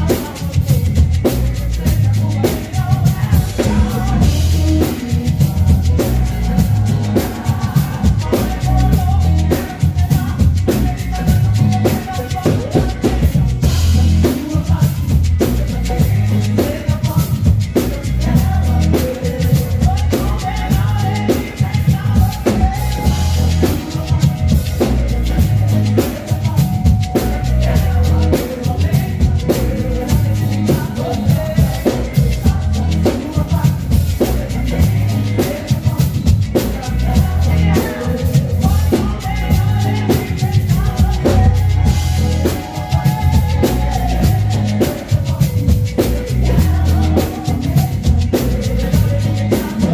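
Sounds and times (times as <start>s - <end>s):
band music: 0.0s - 49.9s
drum kit beat: 0.0s - 49.9s
pulsing bass line: 0.0s - 49.9s.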